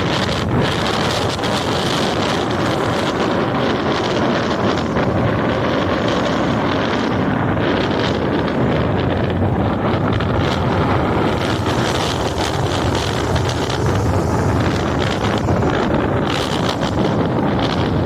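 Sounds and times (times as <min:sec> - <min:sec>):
rough sea waves breaking: 0:00.0 - 0:18.0
wind blowing over microphone: 0:00.0 - 0:18.0.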